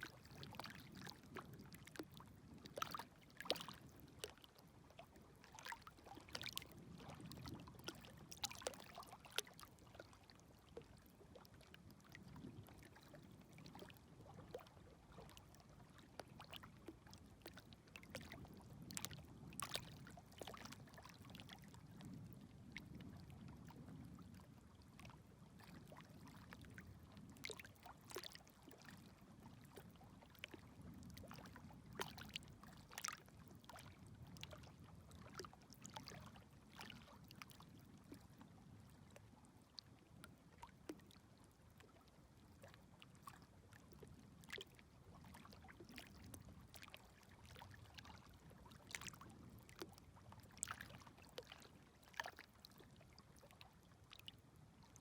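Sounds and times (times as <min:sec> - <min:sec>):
small water splashes and clicks: 0:00.0 - 0:55.0
small waves lapping at shore: 0:00.0 - 0:55.0.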